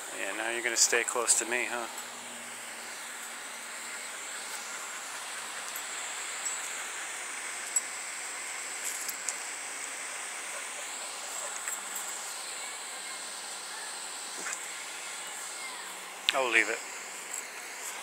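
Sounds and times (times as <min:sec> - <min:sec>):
high-pitched insect chorus: 0:00.2 - 0:17.8.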